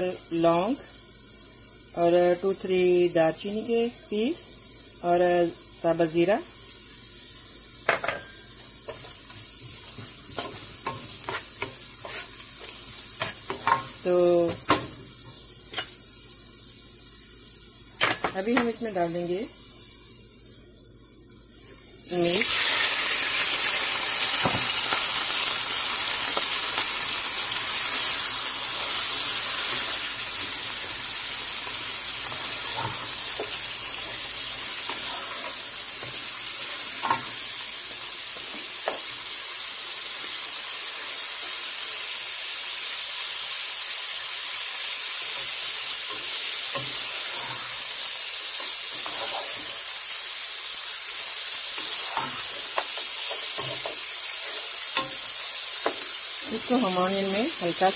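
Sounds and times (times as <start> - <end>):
meat sizzling in hot oil: 0.0 - 57.9.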